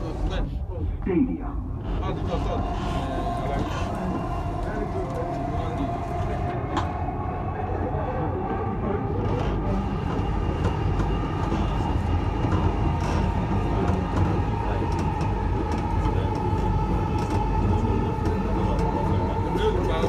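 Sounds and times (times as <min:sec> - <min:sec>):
train wheels rumbling on track: 0:01.7 - 0:20.0.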